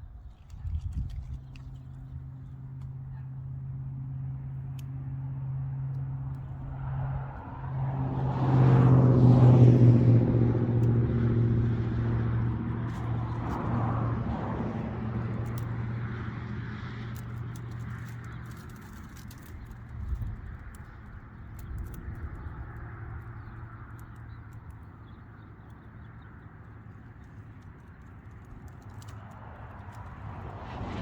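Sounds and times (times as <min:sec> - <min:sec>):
engine running: 0:00.5 - 0:31.0.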